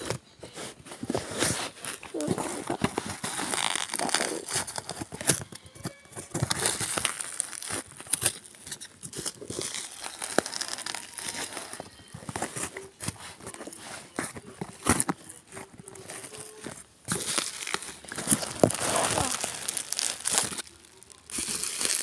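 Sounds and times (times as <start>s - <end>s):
bubble wrap crinkling: 0.0s - 22.0s
cardboard box being handled: 0.0s - 22.0s
tearing: 0.8s - 22.0s.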